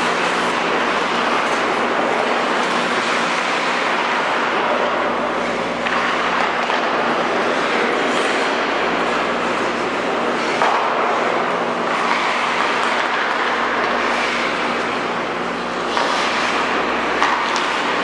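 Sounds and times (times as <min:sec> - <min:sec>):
ice arena rushing hum: 0:00.0 - 0:18.0.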